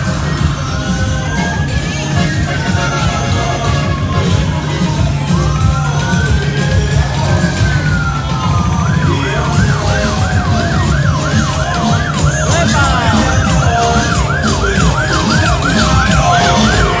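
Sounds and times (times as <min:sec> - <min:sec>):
emergency vehicle siren: 0:00.0 - 0:17.0.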